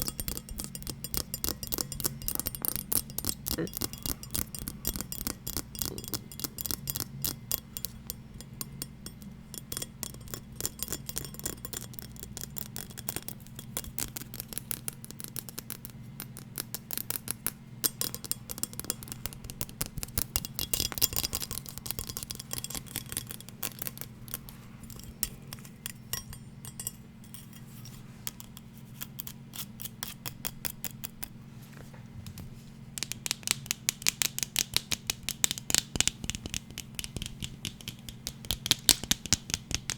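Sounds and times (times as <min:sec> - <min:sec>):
rapid tapping on hard objects: 0:00.0 - 0:27.1, 0:28.1 - 0:31.4, 0:32.2 - 0:39.9
steady low hum: 0:00.0 - 0:39.9.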